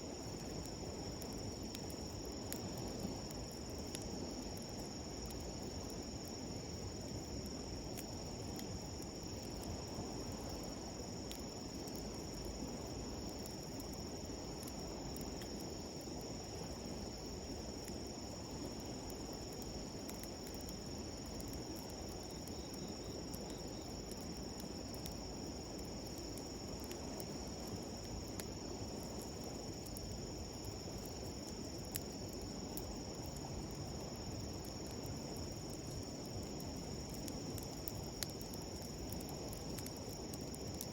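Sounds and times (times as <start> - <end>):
campfire crackling: 0.0 - 40.9
insects trilling: 0.0 - 40.9.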